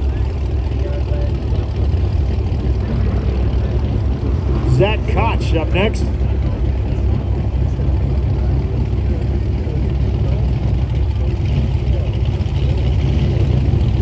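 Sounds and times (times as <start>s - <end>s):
car engine deep rumble: 0.0s - 14.0s
faint voices: 0.0s - 14.0s.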